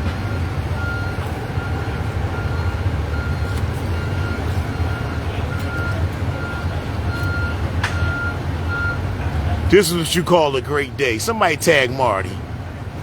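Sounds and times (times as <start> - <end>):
vehicle backup alarm beeping: 0.2 - 12.3.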